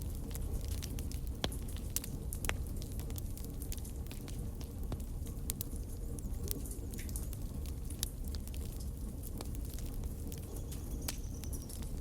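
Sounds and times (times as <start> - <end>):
fire flames rumbling: 0.0 - 12.0
wood fire crackling and popping: 0.0 - 12.0.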